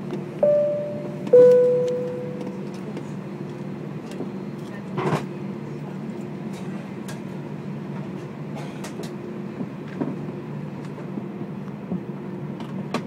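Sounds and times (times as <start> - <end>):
aircraft cabin engine hum: 0.0 - 12.7.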